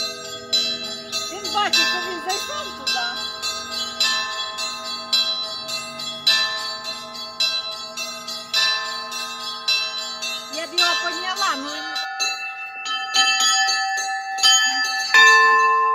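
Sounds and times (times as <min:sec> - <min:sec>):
church bells ringing: 0:00.0 - 0:15.9.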